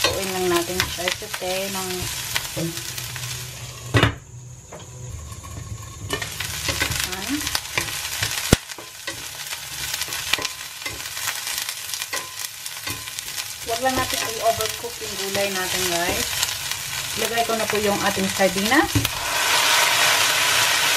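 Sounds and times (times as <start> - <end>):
vegetables sizzling in oil: 0.0 - 20.9.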